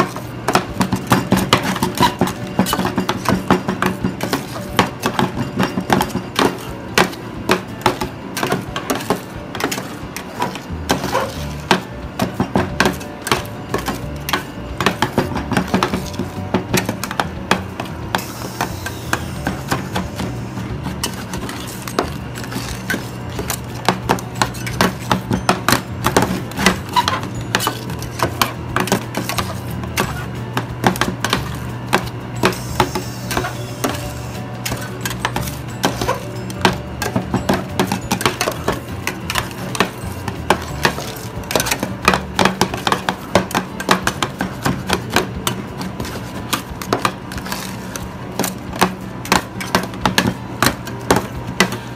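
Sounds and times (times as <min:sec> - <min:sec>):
background music: 0:00.0 - 0:51.9.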